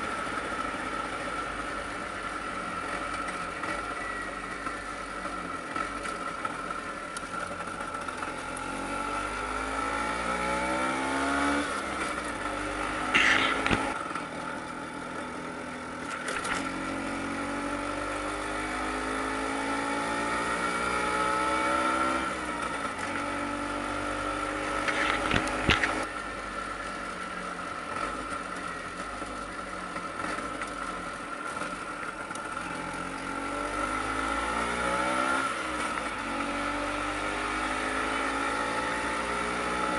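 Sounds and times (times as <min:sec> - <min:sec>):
scooter engine accelerating: 0:00.0 - 0:39.9.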